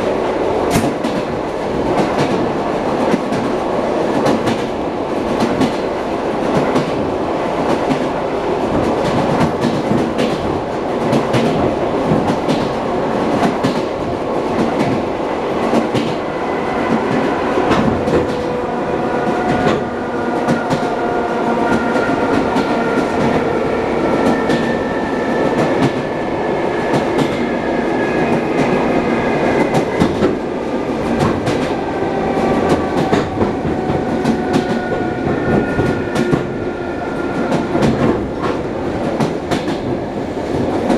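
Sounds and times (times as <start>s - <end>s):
train rumble inside carriage: 0.0s - 40.9s.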